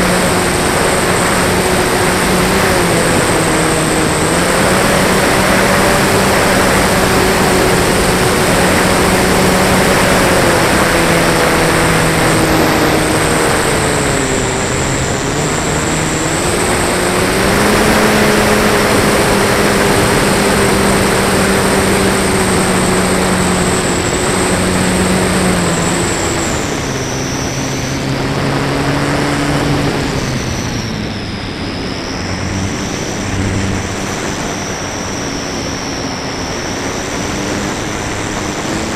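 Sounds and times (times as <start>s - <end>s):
model plane electric motor: 0.0s - 38.9s.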